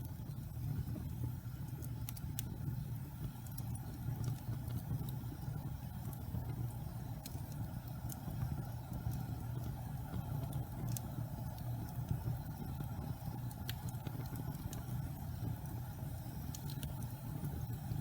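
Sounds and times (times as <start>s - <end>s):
fire crackles and pops: 0.0s - 18.0s
wood fire rumbling: 0.0s - 18.0s.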